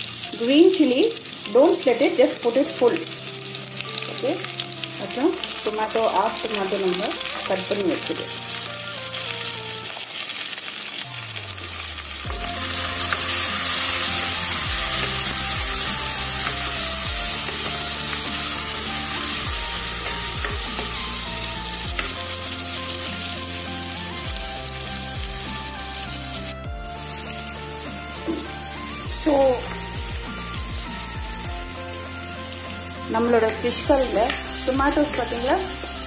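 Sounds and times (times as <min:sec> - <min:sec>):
soft background music: 0:00.0 - 0:36.0
vegetables sizzling in hot oil: 0:00.0 - 0:36.0.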